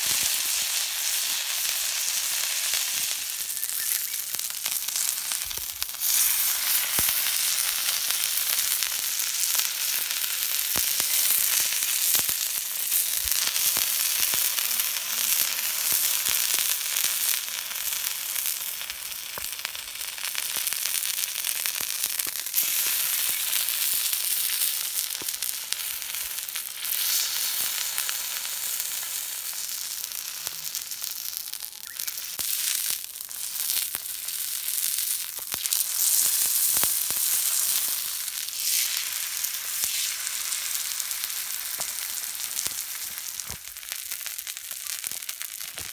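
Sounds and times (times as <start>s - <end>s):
pops and crackles: 0.0s - 45.9s
steak sizzling on griddle: 0.0s - 45.9s.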